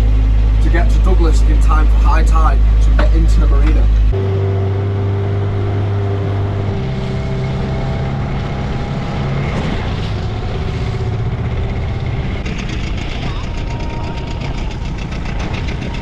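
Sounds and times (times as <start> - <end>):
boat engine running: 0.0 - 16.0
wind and water noise: 0.0 - 16.0.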